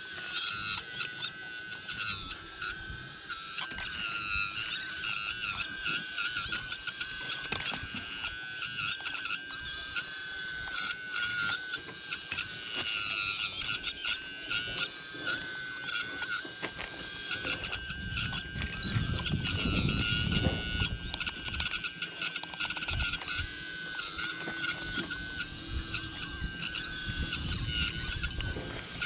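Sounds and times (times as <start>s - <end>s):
hydraulic pump motor whining: 0.0s - 29.0s
machine squeaking and clicking: 0.0s - 29.0s.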